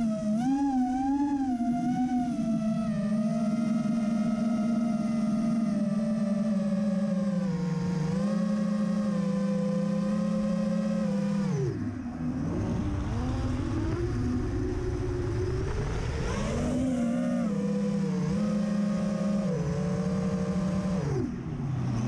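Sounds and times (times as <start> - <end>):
drone propellers humming: 0.0 - 22.0.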